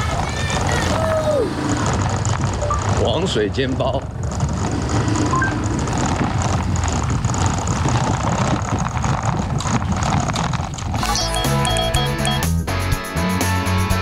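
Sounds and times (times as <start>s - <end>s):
motor scooter engines: 0.0s - 12.7s.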